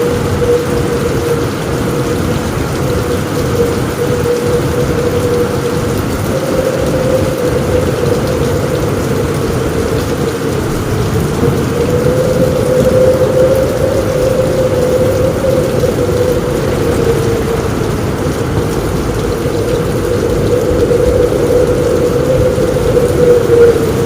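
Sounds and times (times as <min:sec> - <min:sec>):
heavy rain on a roof: 0:00.0 - 0:24.0
steady low tone: 0:00.0 - 0:24.0.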